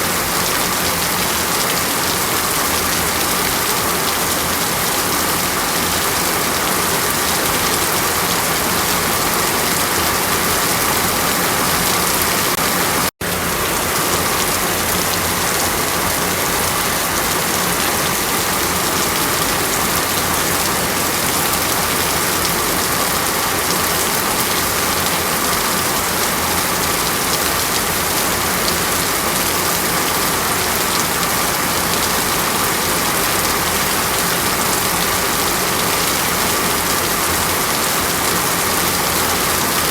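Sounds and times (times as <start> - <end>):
hiss of falling water: 0.0 - 39.9.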